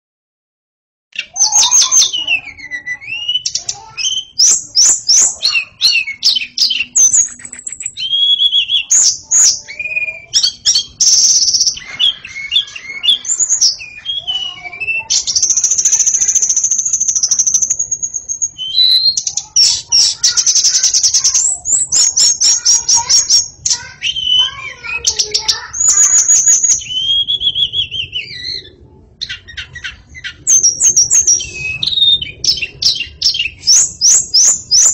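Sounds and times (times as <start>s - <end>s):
songbird singing: 1.2s - 34.9s.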